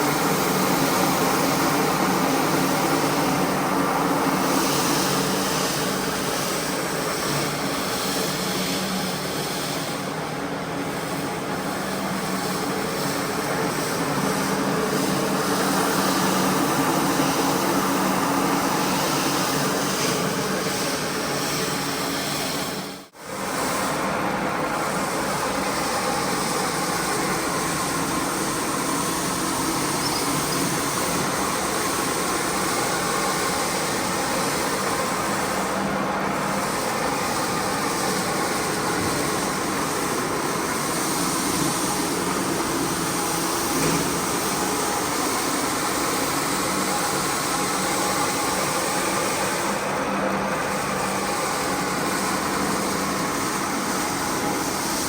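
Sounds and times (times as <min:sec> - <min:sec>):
carpet cleaning machine running: 0:00.0 - 0:55.0.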